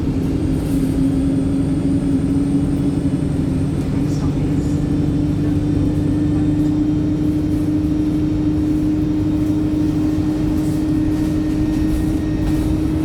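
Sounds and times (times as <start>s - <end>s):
bus engine drone: 0.0s - 13.0s
low road rumble: 0.0s - 13.0s.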